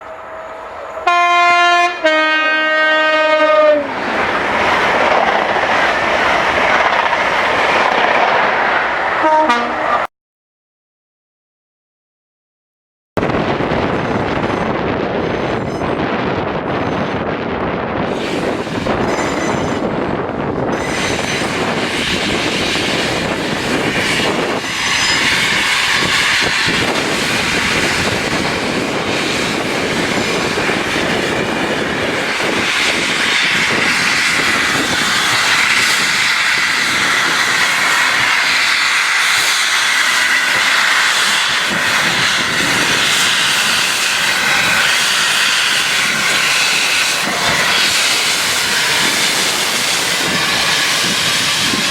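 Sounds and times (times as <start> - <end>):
train rushing past: 0.0 - 10.1, 13.2 - 51.9.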